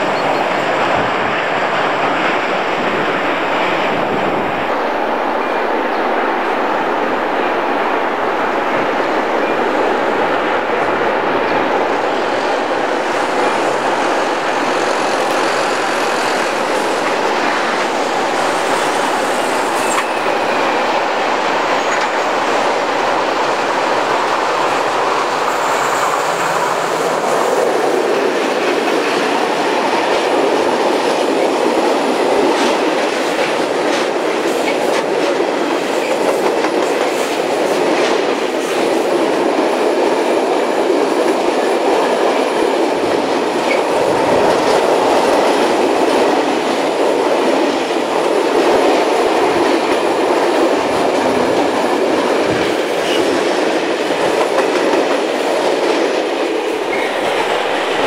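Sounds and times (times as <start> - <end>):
diesel locomotives working hard: 0.0 - 58.0
wheels clacking over rail joints: 9.4 - 58.0.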